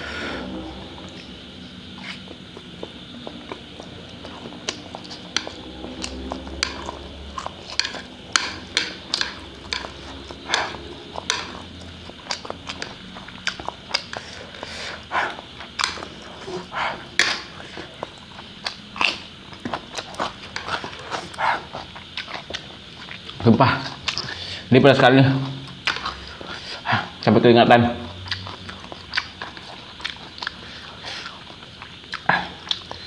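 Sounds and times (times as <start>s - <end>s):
chewing and slurping noodles: 0.4s - 24.6s, 28.2s - 33.0s.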